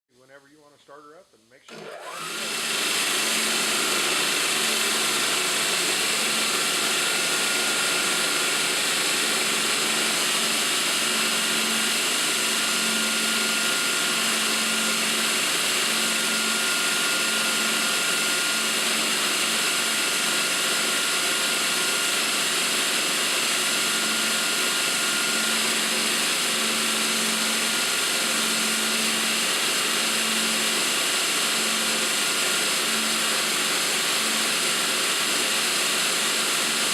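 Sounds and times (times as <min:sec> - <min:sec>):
belt grinder running: 0:01.7 - 0:36.9.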